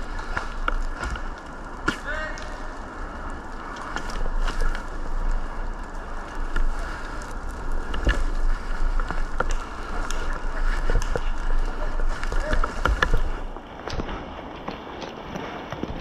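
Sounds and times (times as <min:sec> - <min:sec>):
sharp clicks and snaps: 0:00.0 - 0:15.8
wind rumbling on microphone: 0:00.0 - 0:16.0.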